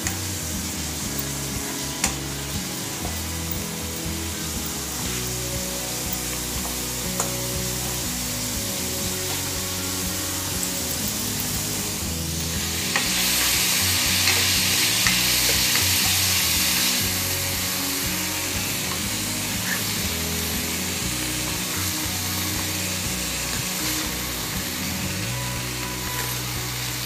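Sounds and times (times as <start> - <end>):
spatula scraping a pan: 0.0 - 26.8
food sizzling in a frying pan: 0.0 - 27.0.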